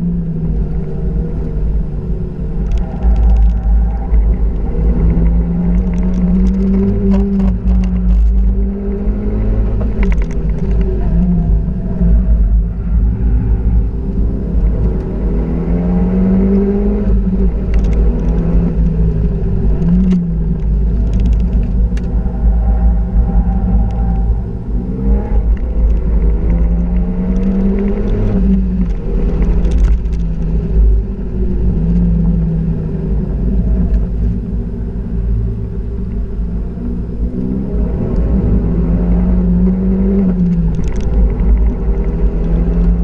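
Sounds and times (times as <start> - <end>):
car engine accelerating: 0.0 - 43.0
road and tyre noise: 0.0 - 43.0.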